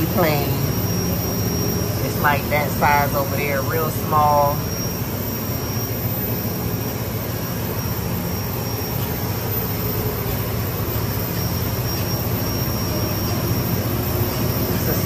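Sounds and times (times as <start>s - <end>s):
jet engines humming: 0.0s - 15.0s
thin high whine: 0.0s - 15.0s.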